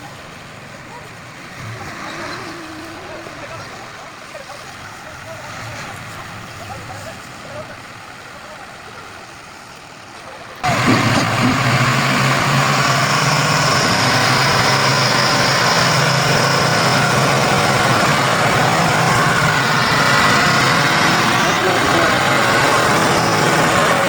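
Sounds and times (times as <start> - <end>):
diesel tractor engine straining: 0.0 - 24.0.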